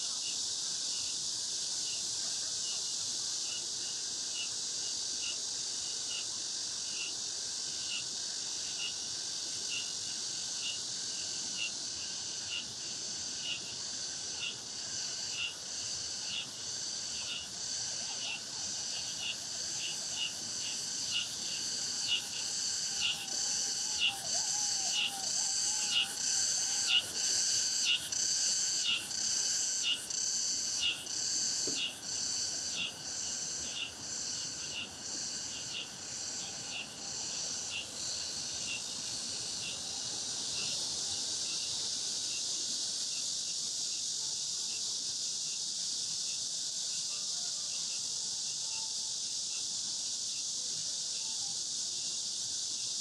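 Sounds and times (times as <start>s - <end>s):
cicadas shrilling in chorus: 0.0s - 53.0s.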